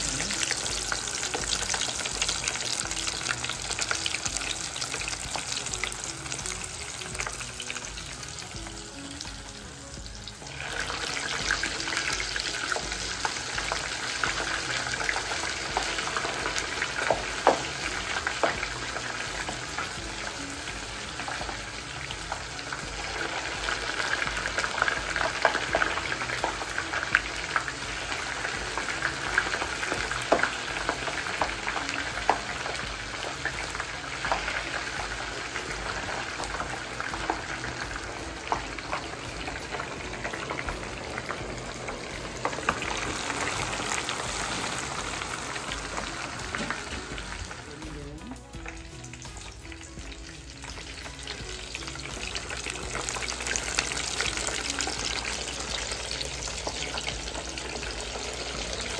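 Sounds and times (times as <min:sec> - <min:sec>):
food sizzling in hot oil: 0:00.0 - 0:58.9.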